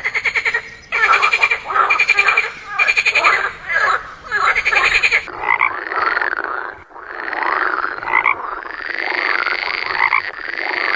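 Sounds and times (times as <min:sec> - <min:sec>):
frogs croaking: 0:00.0 - 0:10.9.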